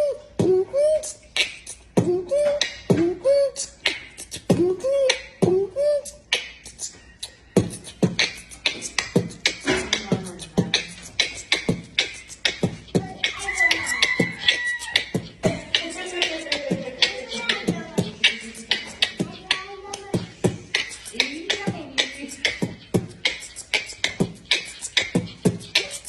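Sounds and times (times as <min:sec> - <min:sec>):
beatboxing: 0:00.0 - 0:26.0.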